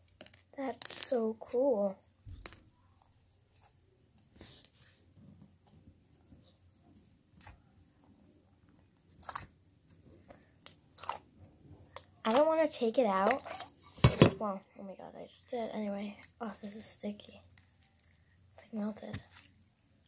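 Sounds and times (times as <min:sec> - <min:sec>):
slime squishing and squelching: 0:00.0 - 0:20.0.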